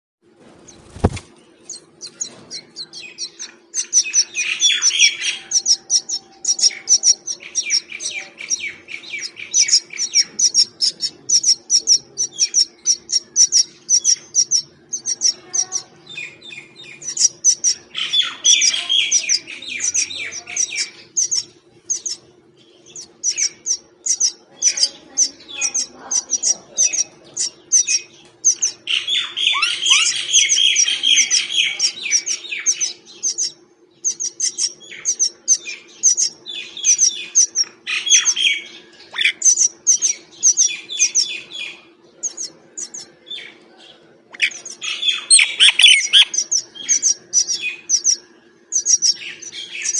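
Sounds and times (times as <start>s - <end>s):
faint low hum: 0.2s - 49.9s
mynas chirping: 0.4s - 49.9s.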